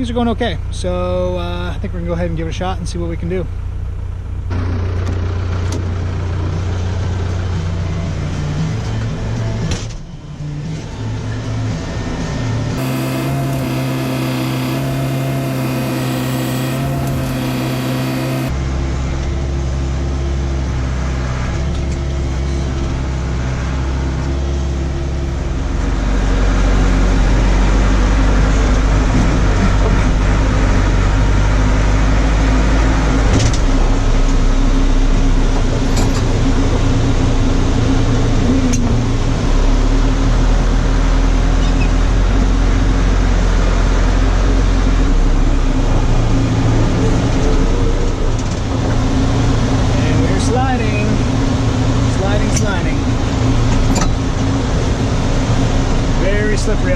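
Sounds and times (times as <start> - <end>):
diesel engine revving: 4.4 - 9.6, 11.6 - 56.9.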